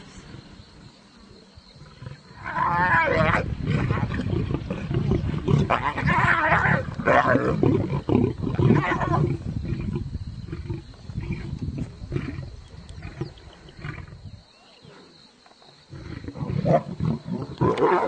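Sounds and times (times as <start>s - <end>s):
lions growling and snarling: 1.8s - 14.4s, 15.9s - 18.0s.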